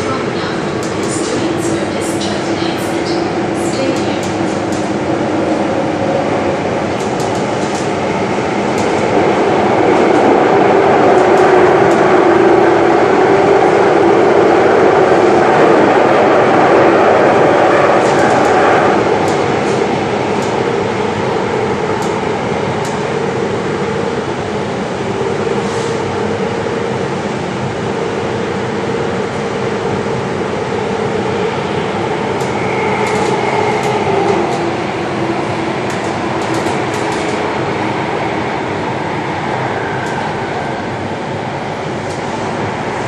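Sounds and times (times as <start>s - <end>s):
train motor hum: 0.0s - 43.0s
train wheels rumbling on track: 0.0s - 43.0s.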